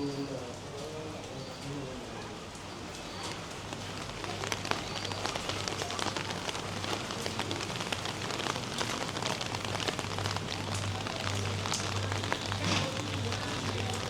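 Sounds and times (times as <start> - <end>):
rain falling: 0.0 - 14.0
raindrops ticking on surfaces: 0.0 - 14.0.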